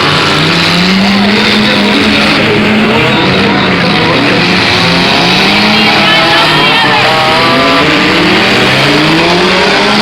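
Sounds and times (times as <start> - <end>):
car engines revving hard: 0.0 - 10.0.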